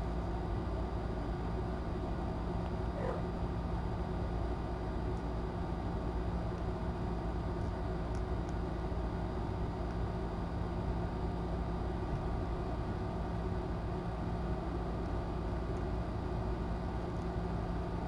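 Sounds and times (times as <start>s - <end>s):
room hum and hiss: 0.0s - 18.0s.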